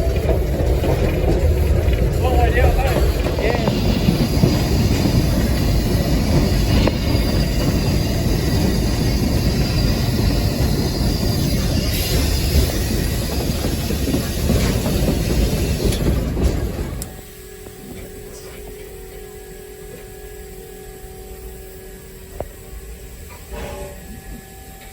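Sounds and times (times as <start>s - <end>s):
locomotive wheels rumbling on rail: 0.0s - 24.9s.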